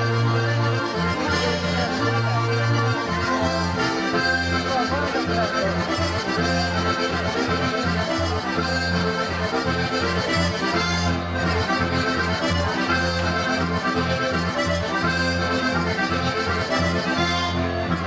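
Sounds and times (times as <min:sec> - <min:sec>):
button accordion dance tune: 0:00.0 - 0:18.0.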